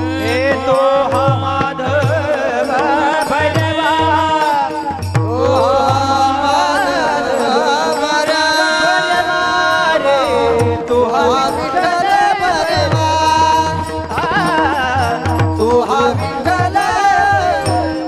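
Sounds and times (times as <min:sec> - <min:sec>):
held accompaniment: 0:00.0 - 0:18.0
person singing ornamented notes: 0:00.0 - 0:18.0.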